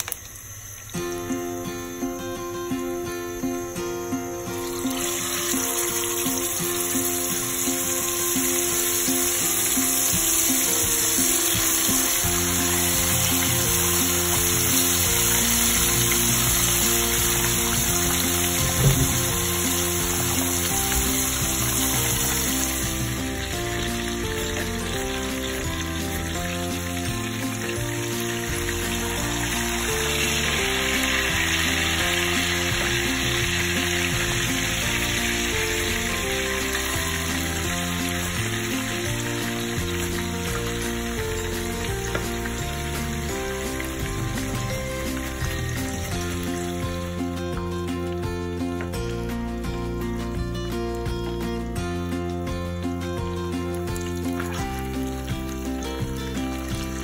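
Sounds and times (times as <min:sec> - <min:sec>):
fish sizzling in oil: 0:00.0 - 0:01.6, 0:03.6 - 0:50.0, 0:53.2 - 0:57.0
background music: 0:00.4 - 0:57.0.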